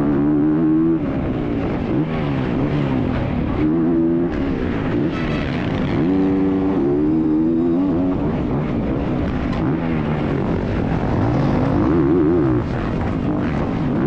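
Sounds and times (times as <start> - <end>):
dirt bike engine revving: 0.2 - 14.0.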